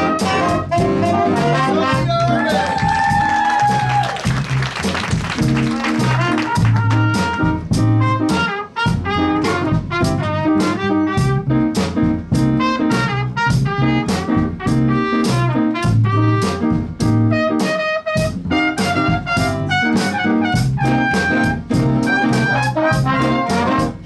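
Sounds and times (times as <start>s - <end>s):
held high horn note: 0.0s - 2.4s, 6.0s - 11.6s, 12.6s - 24.0s
drum hits: 0.0s - 24.0s
jazz big band playing: 0.0s - 24.0s.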